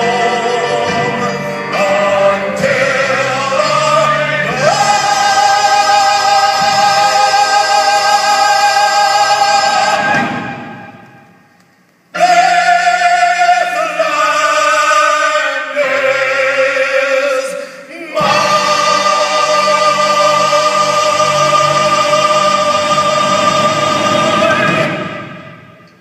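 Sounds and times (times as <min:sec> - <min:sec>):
person singing with vibrato: 0:00.0 - 0:11.0, 0:12.1 - 0:25.9.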